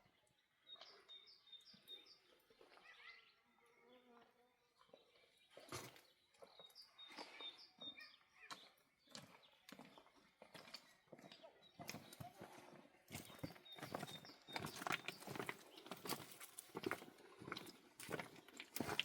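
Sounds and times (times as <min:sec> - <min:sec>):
faint bird chirping: 0:00.0 - 0:16.2.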